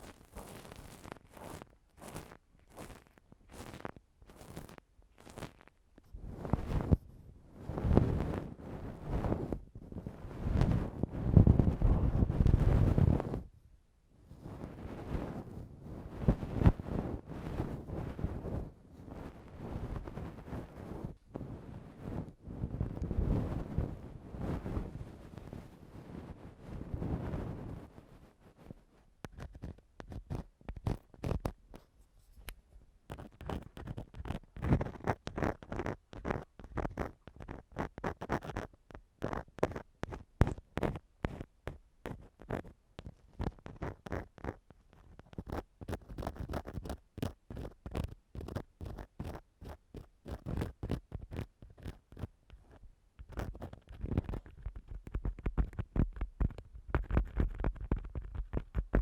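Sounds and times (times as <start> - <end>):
ear-cleaning tool scratching microphone: 0.0 - 5.7, 6.3 - 7.0, 7.6 - 13.4, 14.4 - 31.9, 33.1 - 59.0.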